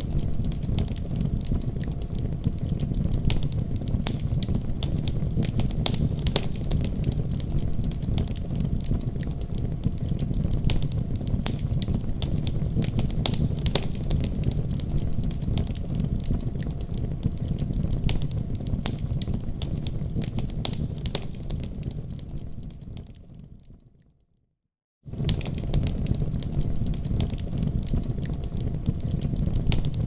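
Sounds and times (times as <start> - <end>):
fire crackling in a fireplace: 0.0 - 24.3, 25.0 - 30.0.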